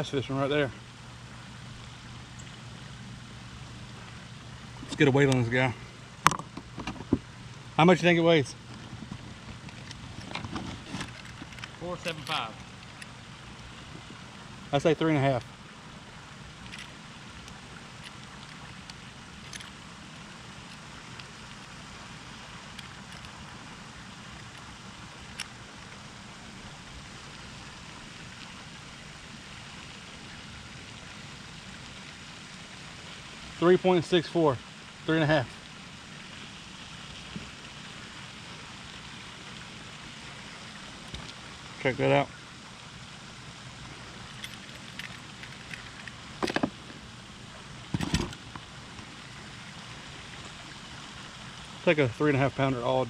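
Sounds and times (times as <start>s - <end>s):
low background hiss: 0.0s - 53.0s.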